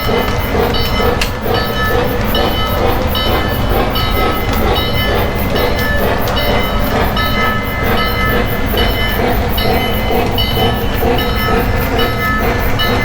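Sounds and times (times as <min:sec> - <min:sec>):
model train bell ringing: 0:00.0 - 0:13.0
model train motor rumble: 0:00.0 - 0:13.0.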